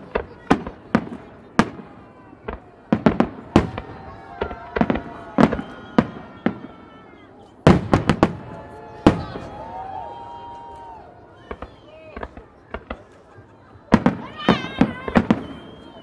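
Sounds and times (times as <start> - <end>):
fireworks bursting with bangs: 0.0 - 10.0, 11.4 - 16.0.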